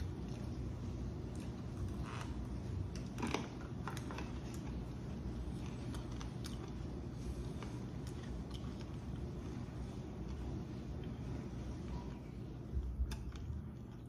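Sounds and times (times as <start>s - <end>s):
chewing with clicks and crunches: 0.0s - 12.2s
steady low hum: 0.0s - 14.0s.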